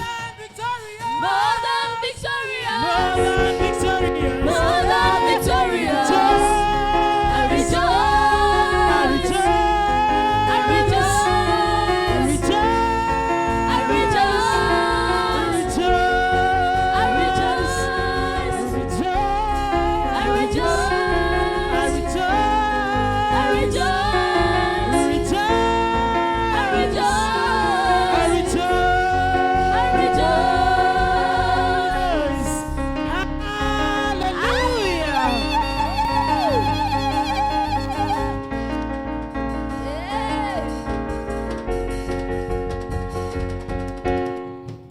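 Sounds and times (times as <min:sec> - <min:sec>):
gospel singing with band: 0:00.0 - 0:42.3.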